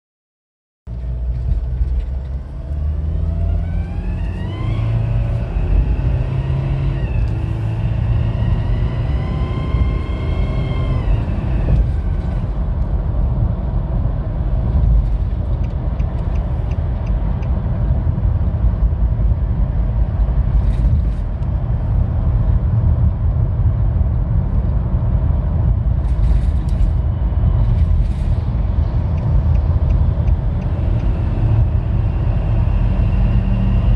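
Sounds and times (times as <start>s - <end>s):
diesel engine revving and idling: 0.9s - 33.9s.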